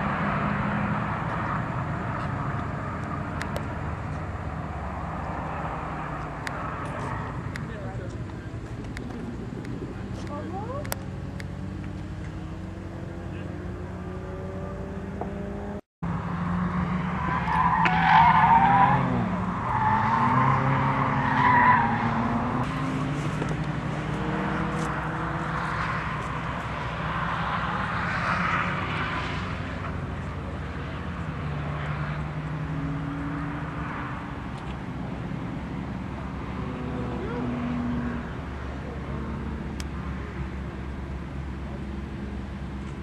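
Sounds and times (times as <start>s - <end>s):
tires squealing: 0.0s - 10.8s, 16.6s - 43.0s
race car engines: 0.0s - 43.0s.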